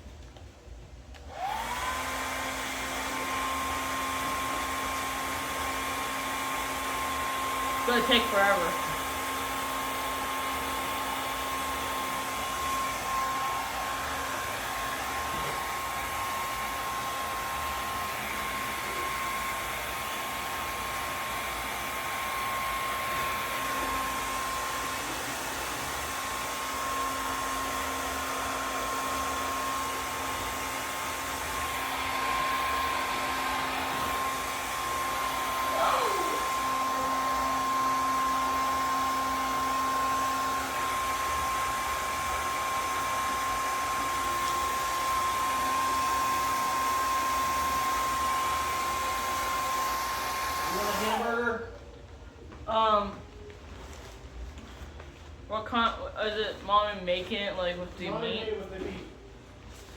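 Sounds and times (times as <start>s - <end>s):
hair dryer blowing: 1.1s - 53.5s.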